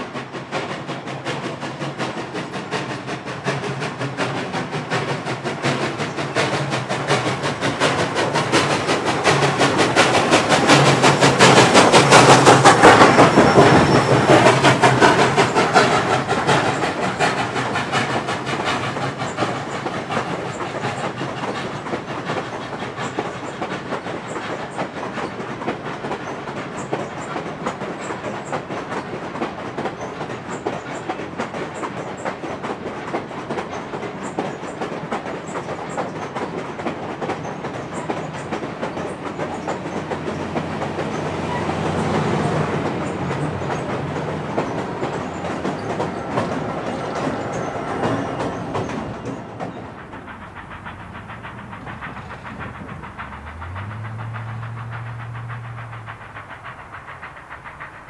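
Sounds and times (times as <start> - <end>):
diesel locomotive engine: 0.0 - 58.0
train wheels clicking over rail joints: 0.0 - 58.0.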